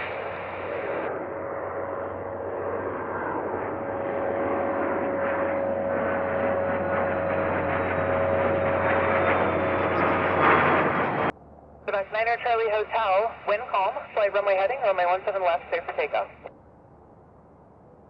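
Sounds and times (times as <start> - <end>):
airplane engine running: 0.0 - 18.0.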